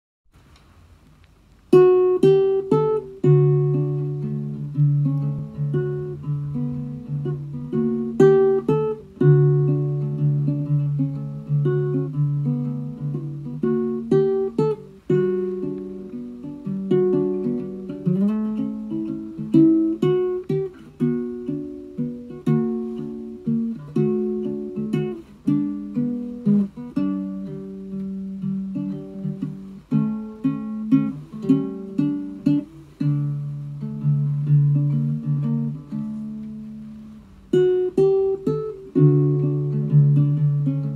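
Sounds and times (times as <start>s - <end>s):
solo ukulele melody: 1.6s - 40.9s.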